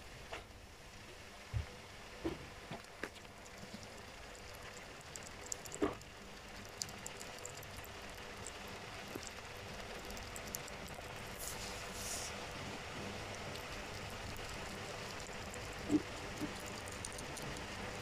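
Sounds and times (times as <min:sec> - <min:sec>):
small animal chewing: 0:02.7 - 0:18.0.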